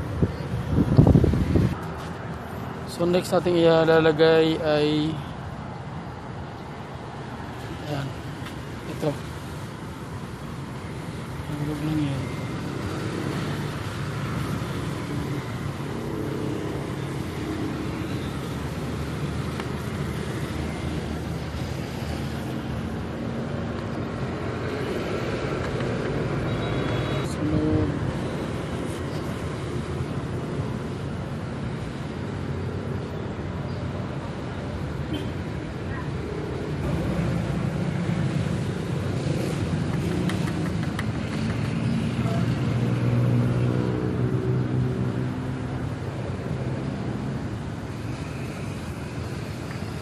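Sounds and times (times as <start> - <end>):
vehicle engine rumble: 0.0 - 32.2, 34.8 - 43.9.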